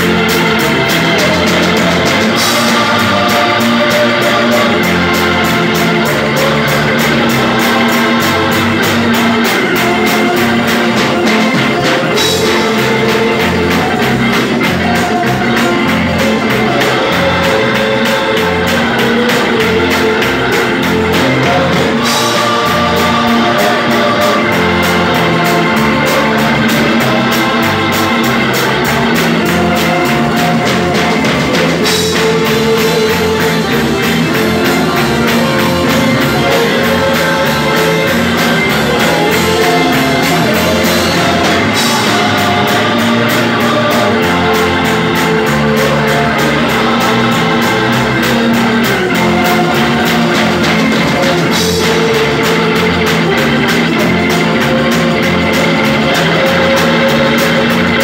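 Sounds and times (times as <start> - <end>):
bass: 0.0 - 58.0
drum kit: 0.0 - 58.0
electric organ chords: 0.0 - 58.0
voices singing: 0.0 - 58.0.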